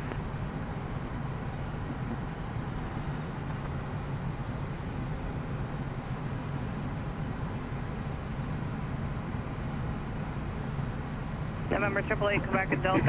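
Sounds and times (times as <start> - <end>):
aircraft cockpit drone: 0.0 - 13.0.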